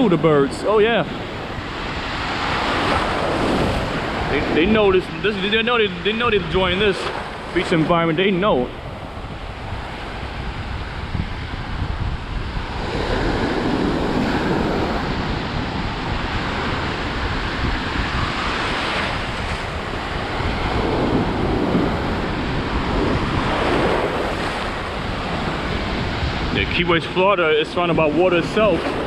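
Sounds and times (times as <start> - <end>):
ocean surf washing: 0.0 - 29.0
wind buffeting microphone: 0.0 - 29.0.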